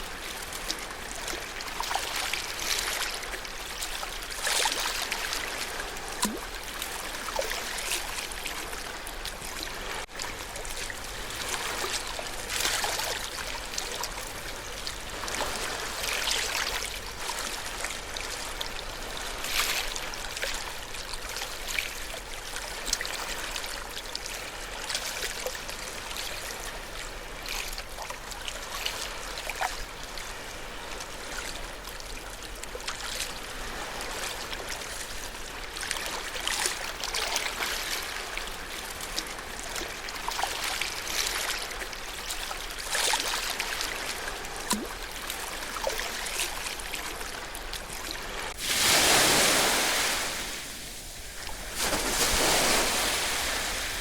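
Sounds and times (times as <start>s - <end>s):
ocean waves washing on shore: 0.0s - 54.0s.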